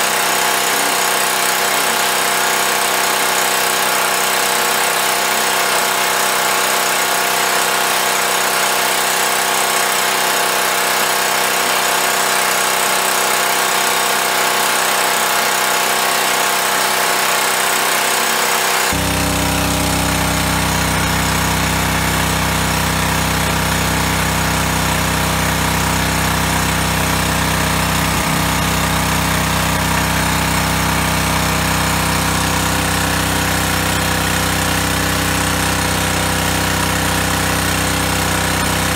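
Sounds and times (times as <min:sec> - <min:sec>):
water pump engine running: 0:00.0 - 0:38.9.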